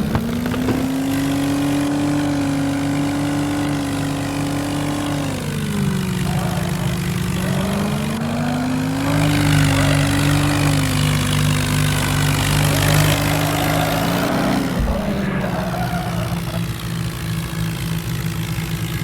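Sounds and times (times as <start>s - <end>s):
car engine under load: 0.0s - 19.0s
tractor engine under load: 0.0s - 19.0s.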